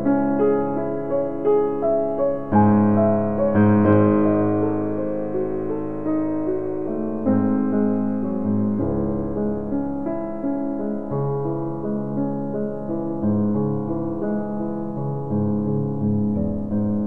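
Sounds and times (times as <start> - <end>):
slow classical piano music: 0.0 - 17.0.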